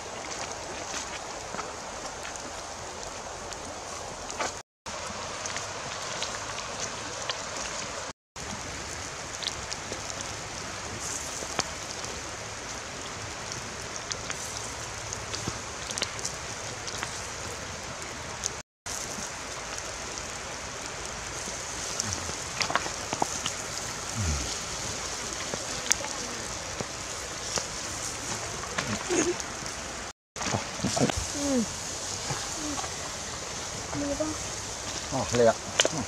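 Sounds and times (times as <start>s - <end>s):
embers crackling and popping: 0.0s - 36.0s
fish sizzling on grill: 0.0s - 36.0s.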